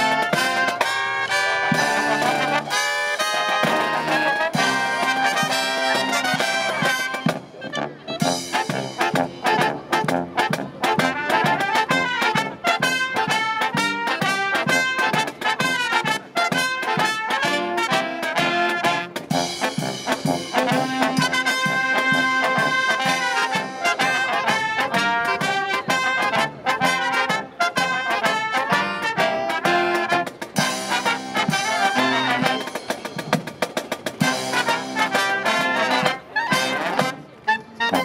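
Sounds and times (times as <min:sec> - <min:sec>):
marching brass band playing: 0:00.0 - 0:38.0.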